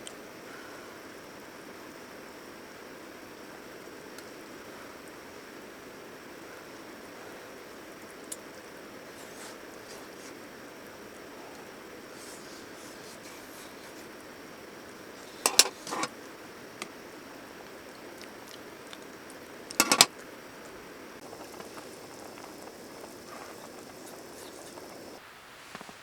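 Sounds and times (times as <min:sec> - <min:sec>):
bubbling hiss: 0:03.4 - 0:26.0.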